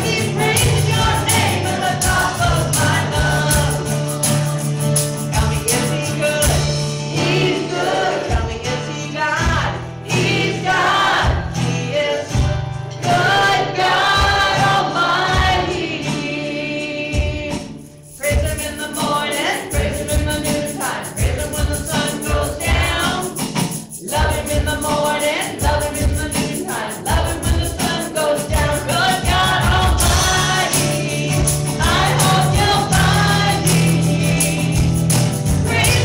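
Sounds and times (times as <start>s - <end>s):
worship song singing with beat: 0.0s - 36.0s.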